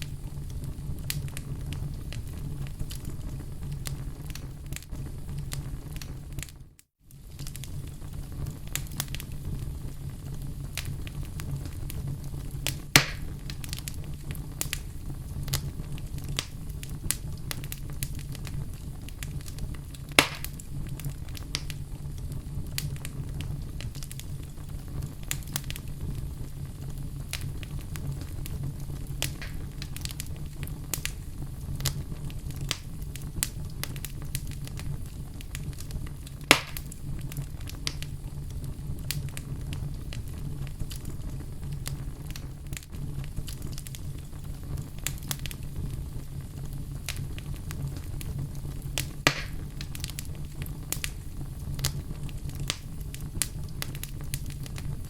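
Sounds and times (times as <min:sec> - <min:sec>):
fire crackling and snapping: 0:00.0 - 0:55.0
fire low rumble: 0:00.0 - 0:55.0
loud fire pops: 0:00.0 - 0:55.0.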